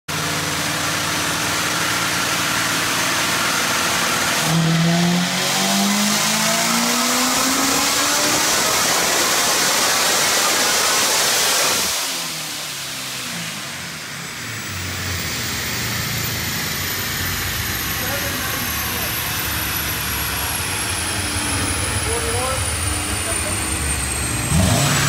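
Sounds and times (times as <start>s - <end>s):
engine revving on dyno: 0.1s - 25.0s.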